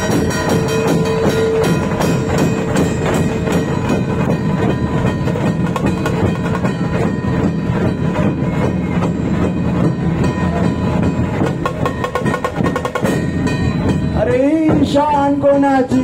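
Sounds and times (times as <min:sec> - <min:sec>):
barrel drums beaten fast: 0:00.0 - 0:16.0
rattling snare drums: 0:00.0 - 0:16.0.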